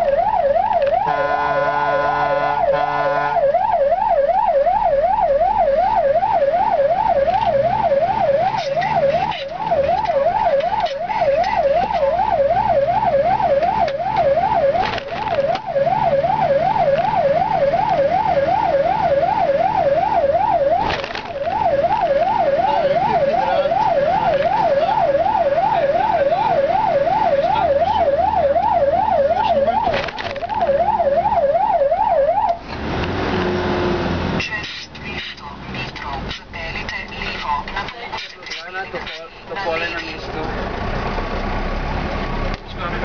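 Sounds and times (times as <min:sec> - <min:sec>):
fire engine siren yelping: 0:00.0 - 0:40.3.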